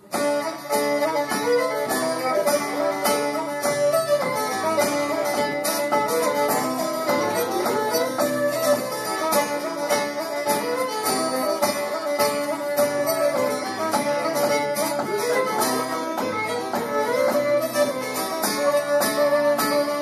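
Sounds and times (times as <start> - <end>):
fiddle playing a traditional tune: 0.0 - 20.0
strummed acoustic guitar: 0.0 - 20.0.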